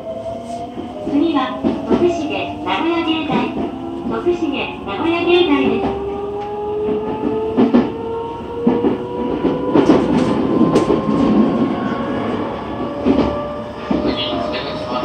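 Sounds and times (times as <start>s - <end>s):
train rumble: 0.0s - 15.0s
train traction motor whine: 0.8s - 15.0s.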